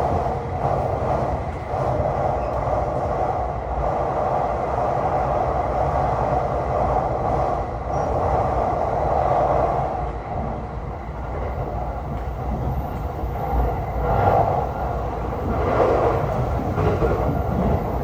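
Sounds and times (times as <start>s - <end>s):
train rumble and rail noise: 0.0s - 18.0s.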